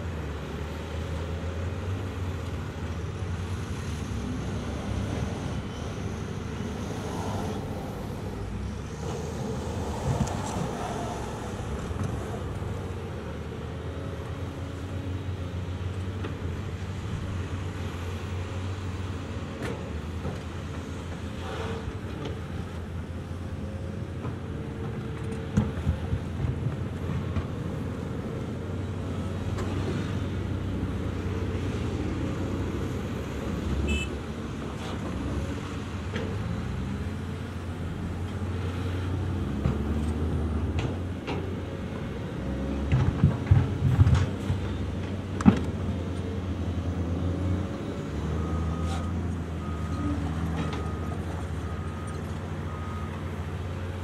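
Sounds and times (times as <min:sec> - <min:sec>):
excavator diesel engines running: 0:00.0 - 0:54.0.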